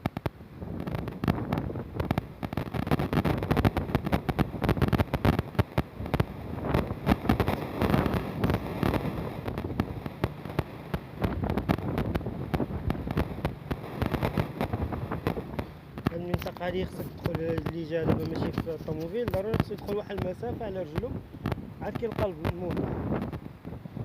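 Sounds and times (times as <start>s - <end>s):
wind blowing across microphone: 0.0s - 24.0s.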